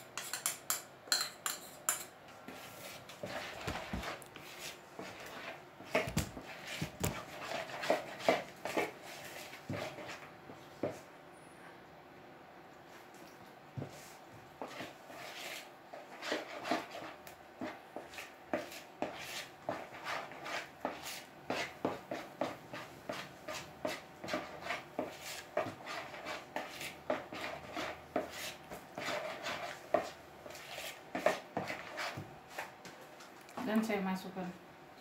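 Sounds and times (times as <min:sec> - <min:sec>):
utensil scraping and knocking bowl: 0:00.0 - 0:11.0, 0:14.6 - 0:32.7.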